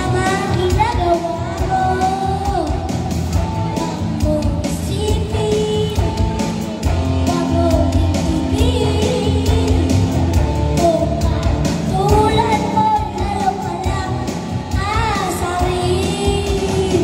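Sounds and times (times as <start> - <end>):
child singing into a microphone: 0.0 - 17.0
pop backing track: 0.0 - 17.0.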